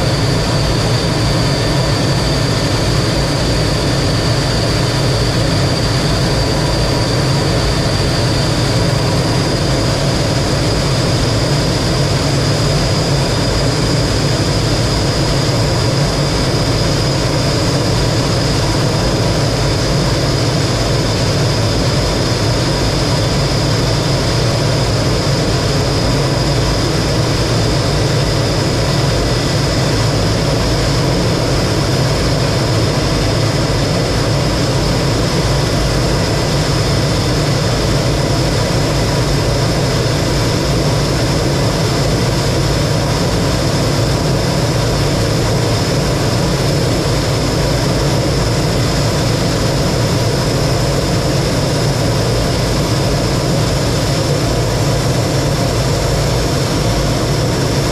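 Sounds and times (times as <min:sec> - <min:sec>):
jet engine high whine: 0:00.0 - 0:57.9
jet engine rush: 0:00.0 - 0:57.9.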